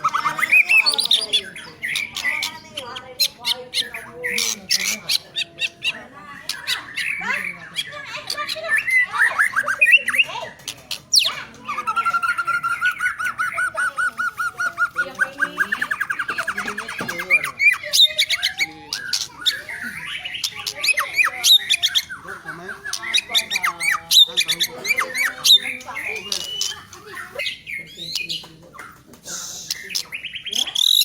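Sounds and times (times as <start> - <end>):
bird singing rapid notes: 0.0 - 31.0
bird whistles and harsh calls: 0.0 - 31.0.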